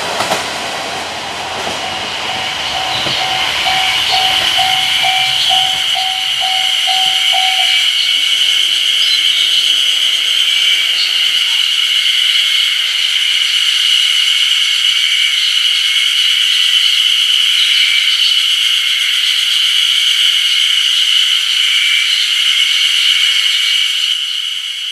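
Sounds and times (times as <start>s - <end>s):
cicadas droning: 1.1s - 24.9s.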